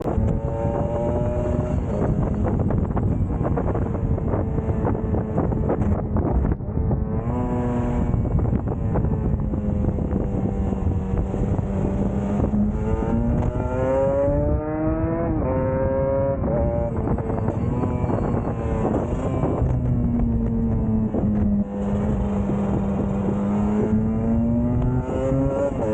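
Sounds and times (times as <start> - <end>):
vehicle engine revving: 0.0 - 25.9.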